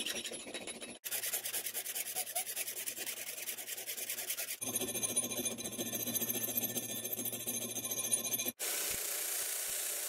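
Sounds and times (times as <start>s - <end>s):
file rasping on steel: 0.0s - 8.6s.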